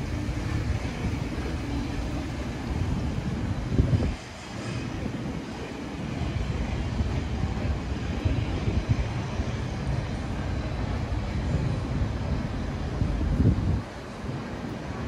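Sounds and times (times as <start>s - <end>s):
distant traffic rumble: 0.0s - 15.0s
wind buffeting microphone: 0.0s - 15.0s.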